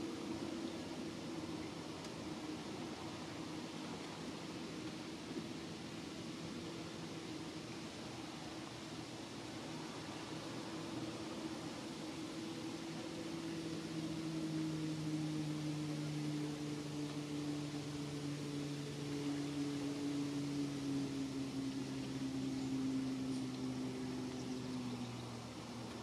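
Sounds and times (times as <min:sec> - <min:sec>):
distant engine drone: 0:00.0 - 0:26.0
outdoor hiss: 0:00.0 - 0:26.0.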